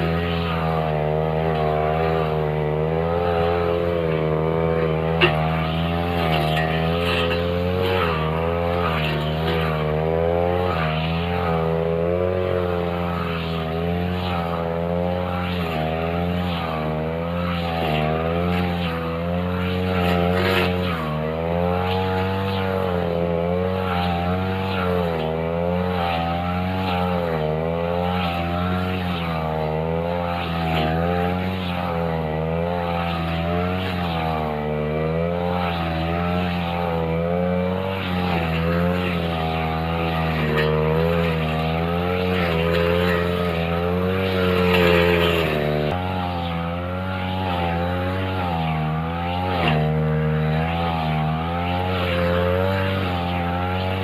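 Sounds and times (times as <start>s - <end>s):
brush cutter engine cutting grass: 0.0s - 54.0s.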